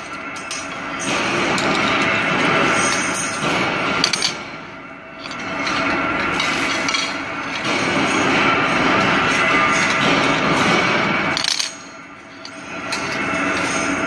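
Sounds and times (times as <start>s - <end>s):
factory noise: 0.0s - 14.0s.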